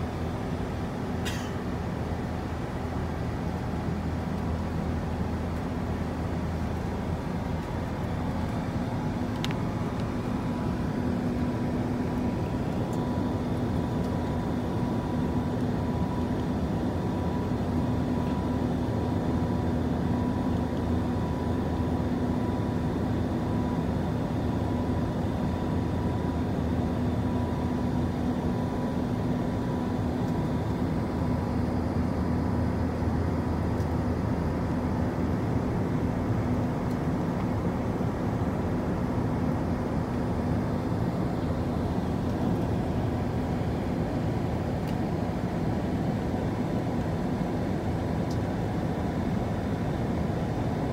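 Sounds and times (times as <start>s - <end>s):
airliner cabin engine drone: 0.0s - 50.9s.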